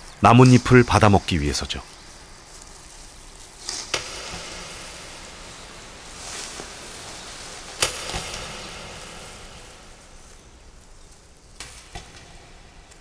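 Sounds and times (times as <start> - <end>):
dry leaf swishing and ticking: 0.0 - 13.0
faint papery hiss: 0.0 - 13.0.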